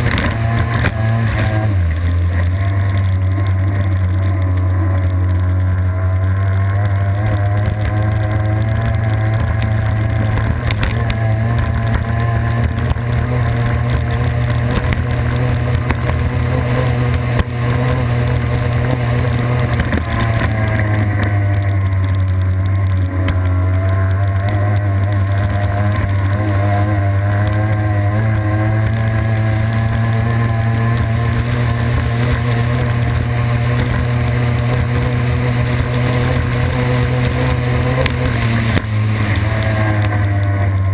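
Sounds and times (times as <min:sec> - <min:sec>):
rushing water: 0:00.0 - 0:27.7, 0:28.6 - 0:40.9
boat engine running hard: 0:00.0 - 0:40.9
wind: 0:00.0 - 0:40.9.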